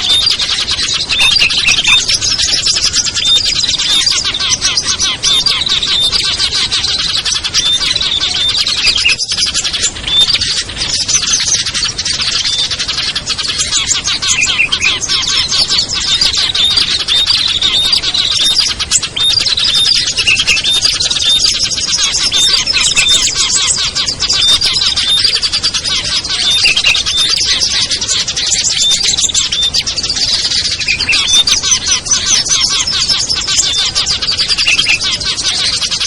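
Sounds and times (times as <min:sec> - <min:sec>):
small songbirds chirping: 0:00.0 - 0:36.0.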